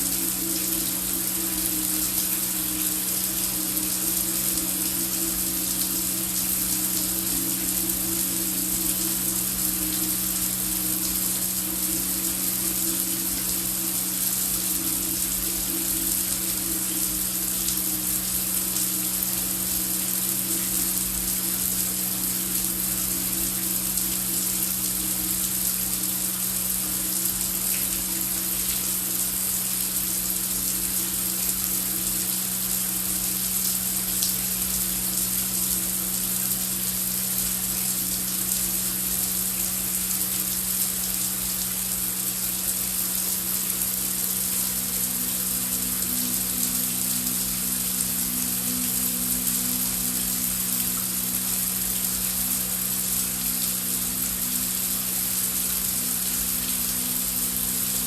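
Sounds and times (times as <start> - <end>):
heavy rain: 0.0 - 58.0
low music drone: 0.0 - 58.0.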